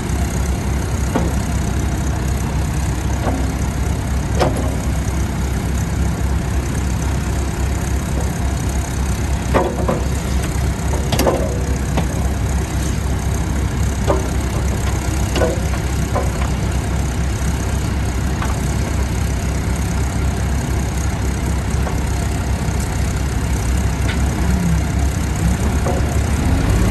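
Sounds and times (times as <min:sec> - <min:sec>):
backhoe engine idling: 0:00.0 - 0:26.9.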